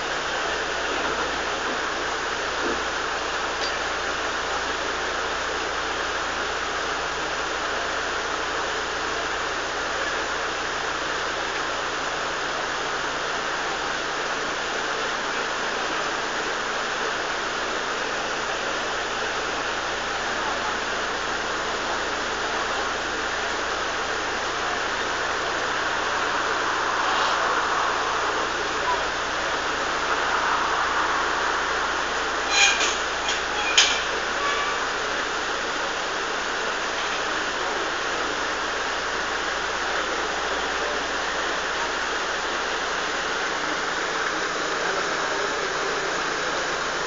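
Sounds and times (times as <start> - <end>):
water rushing into canal lock: 0.0 - 47.0.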